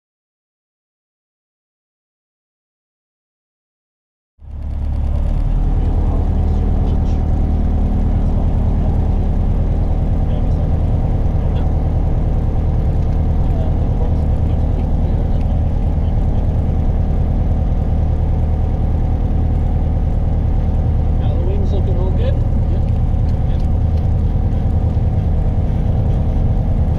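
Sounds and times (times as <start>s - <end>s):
light aircraft engine droning: 4.4s - 26.9s.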